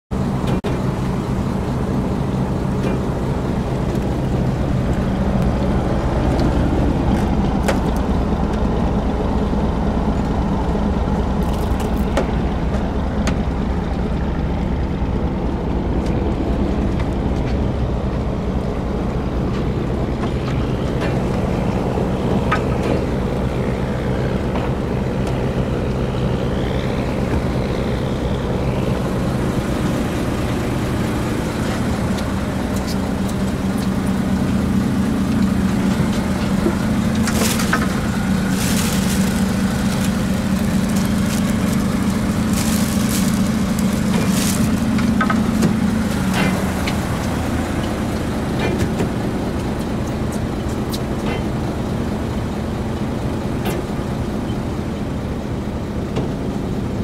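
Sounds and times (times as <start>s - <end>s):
boat engine droning: 0.1s - 57.0s.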